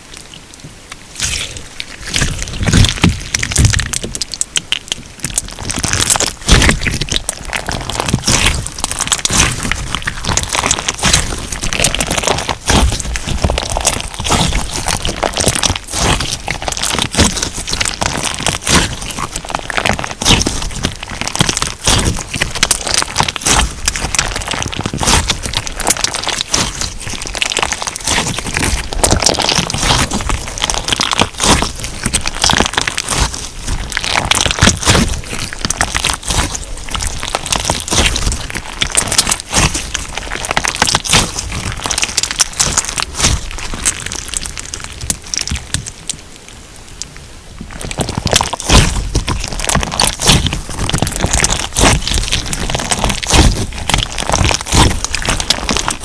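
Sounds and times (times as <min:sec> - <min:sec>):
slime crunching and popping: 0:00.0 - 0:46.4, 0:47.0 - 0:56.0.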